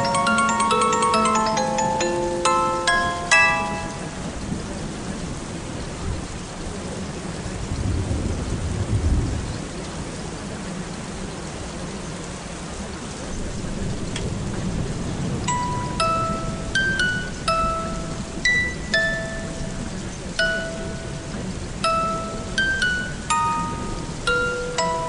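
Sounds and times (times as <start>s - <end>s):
steady rain: 0.0s - 25.0s
low rumble of thunder: 4.1s - 24.5s.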